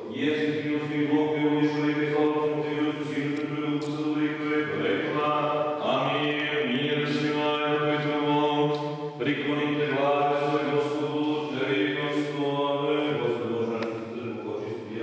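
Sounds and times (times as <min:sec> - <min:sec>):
liturgical chanting: 0:00.0 - 0:15.0.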